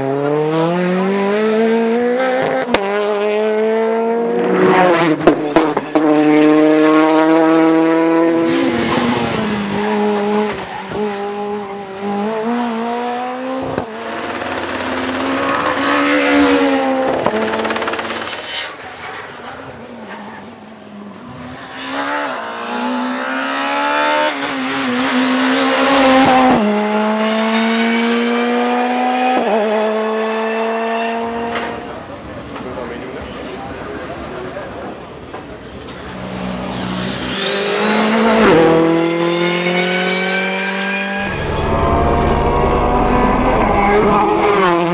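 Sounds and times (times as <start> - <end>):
rally car engines at full throttle: 0.0 - 44.9.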